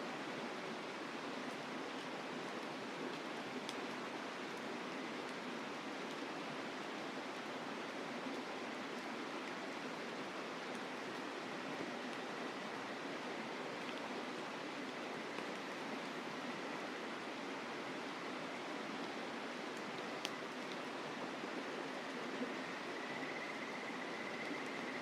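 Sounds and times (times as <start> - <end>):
faint campfire crackles: 0.0 - 25.0.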